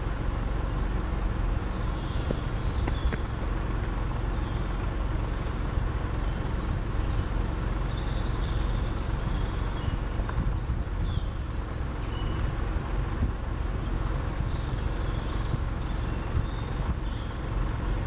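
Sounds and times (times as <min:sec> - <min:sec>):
songbirds whistling: 0:00.0 - 0:12.8, 0:13.8 - 0:17.8
steady low rumble: 0:00.0 - 0:18.0.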